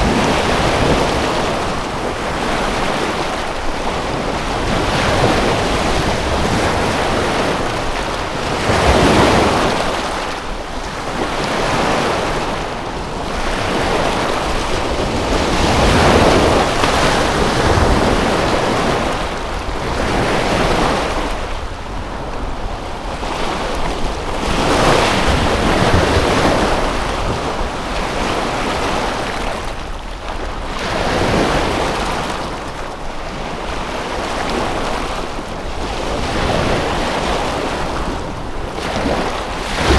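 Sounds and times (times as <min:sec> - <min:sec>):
waves washing ashore: 0:00.0 - 0:39.9.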